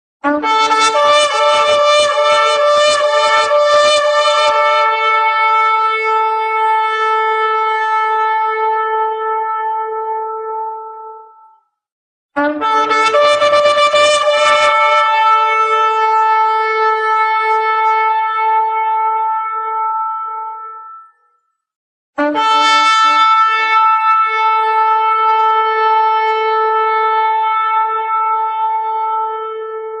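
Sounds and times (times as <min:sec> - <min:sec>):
shofar blasts: 0:00.2 - 0:11.2, 0:12.4 - 0:21.2, 0:22.2 - 0:30.0.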